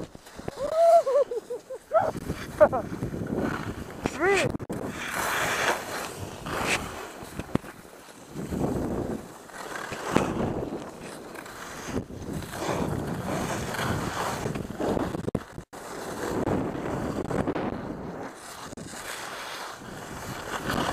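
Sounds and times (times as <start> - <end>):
wind on microphone: 0.0 - 7.7, 8.3 - 9.4, 10.0 - 19.1, 19.7 - 20.9
skis scraping over snow: 0.0 - 20.9.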